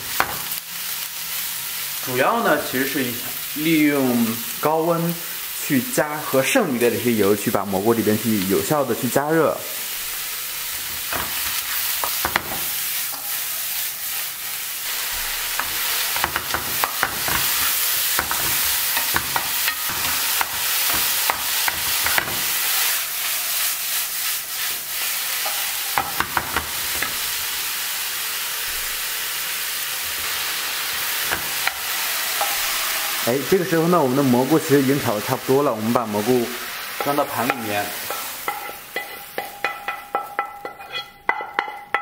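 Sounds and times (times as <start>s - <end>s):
mushrooms sizzling in a pan: 0.0s - 42.0s.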